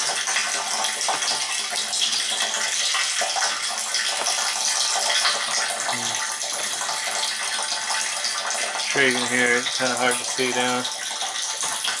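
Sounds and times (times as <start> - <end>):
water splashing into tank: 0.0 - 12.0.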